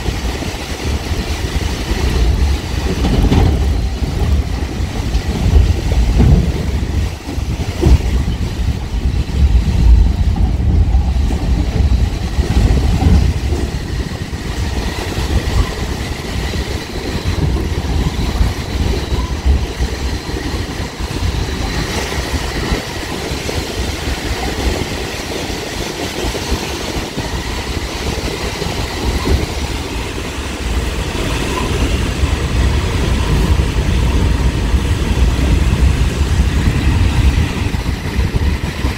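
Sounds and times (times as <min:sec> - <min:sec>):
train rumbling and rattling on rails: 0:00.0 - 0:38.9.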